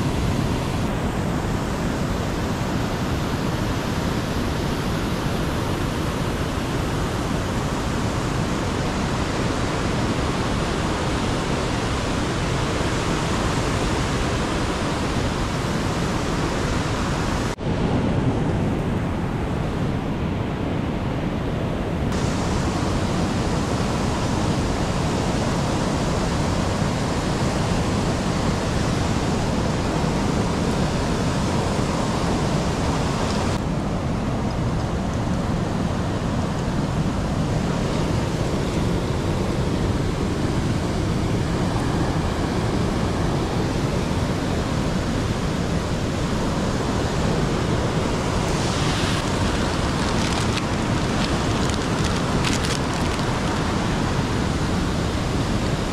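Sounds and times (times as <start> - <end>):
stream and waterfall rushing: 0.0 - 55.9.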